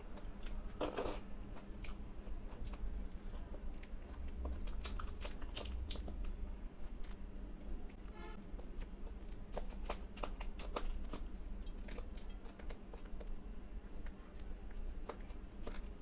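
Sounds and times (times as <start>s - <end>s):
chewing and lip-smacking: 0.0s - 16.0s
low fan hum: 0.0s - 16.0s
wet squishing of food: 0.0s - 16.0s.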